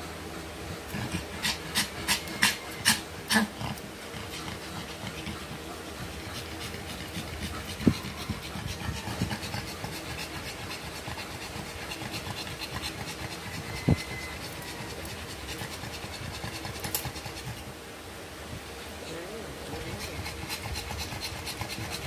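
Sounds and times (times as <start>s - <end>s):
dog panting fast: 0.0s - 17.8s, 19.7s - 22.0s.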